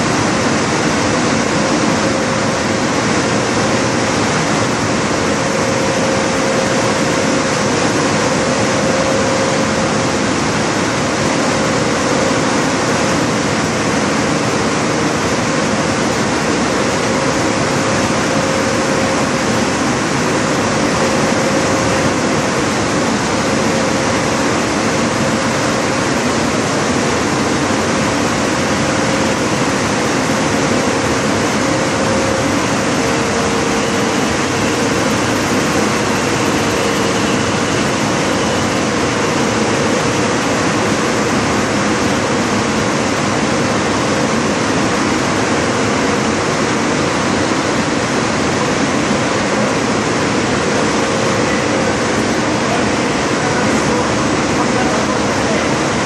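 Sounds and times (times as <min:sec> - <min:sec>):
printing press running: 0:00.0 - 0:56.0.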